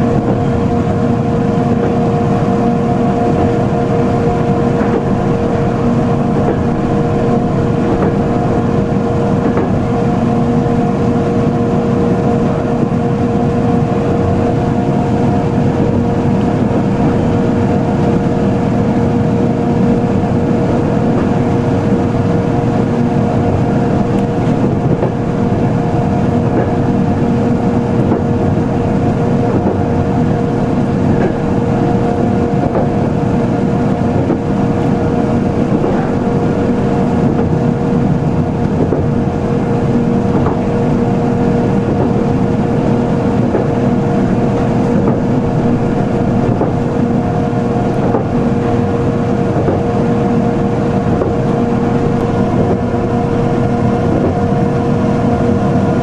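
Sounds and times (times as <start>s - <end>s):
traction equipment hum: 0.0s - 56.0s
train wheels rumbling on rail: 0.0s - 56.0s.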